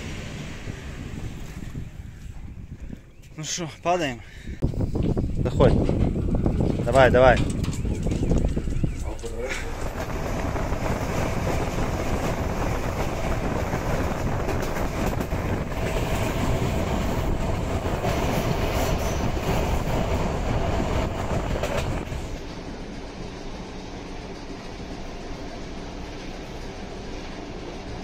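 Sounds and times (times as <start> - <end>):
train wheels rumbling: 0.0 - 3.7, 4.4 - 28.0.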